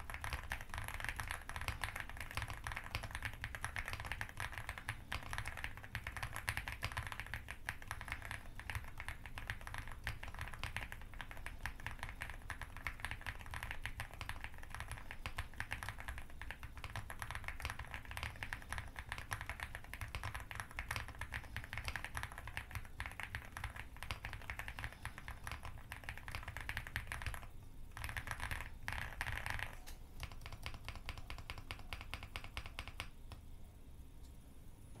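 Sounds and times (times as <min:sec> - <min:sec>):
mechanical keyboard typing: 0:00.0 - 0:33.4.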